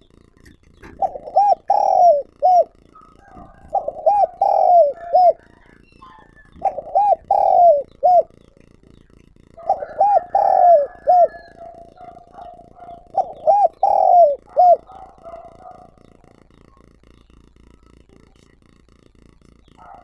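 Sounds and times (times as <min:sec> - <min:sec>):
dove cooing: 0:00.0 - 0:17.8, 0:19.4 - 0:20.0
small birds chirping: 0:00.0 - 0:20.0.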